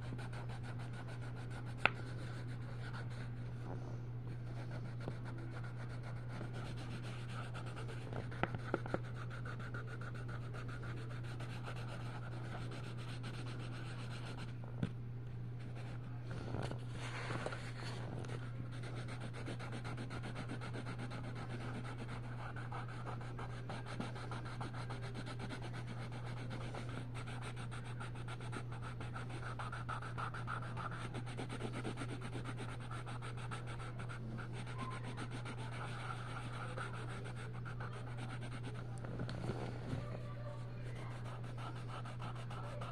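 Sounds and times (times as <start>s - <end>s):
pencil scratching on paper: 0.0s - 3.4s, 4.4s - 14.5s, 16.7s - 39.8s, 40.8s - 42.9s.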